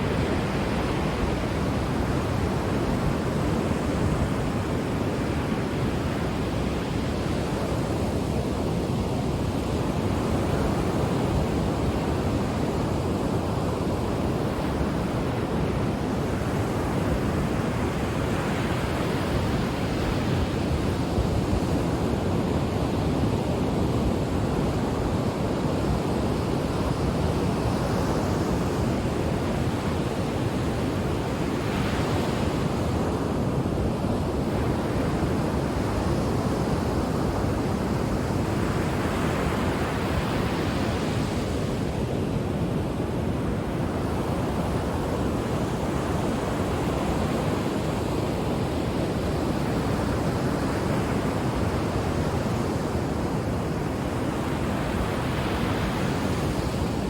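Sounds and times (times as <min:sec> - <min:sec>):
ocean waves breaking on shore: 0:00.0 - 0:57.0
wind: 0:00.0 - 0:57.0.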